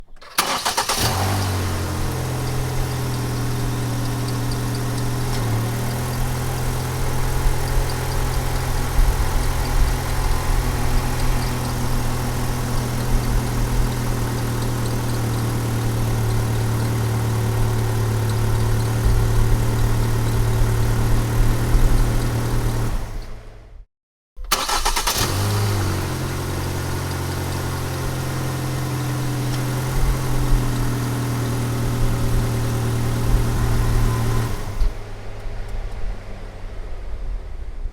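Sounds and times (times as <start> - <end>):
car engine idling: 0.0 - 23.8, 24.4 - 37.7
car engine starting: 0.0 - 23.8, 24.4 - 37.9.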